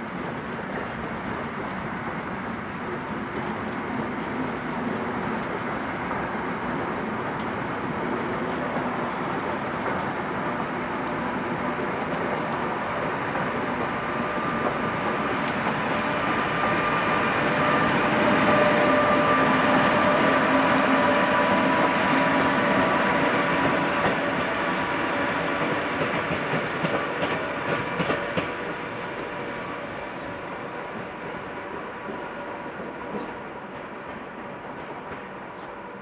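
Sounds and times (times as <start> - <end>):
electric train droning past: 0.0 - 36.0.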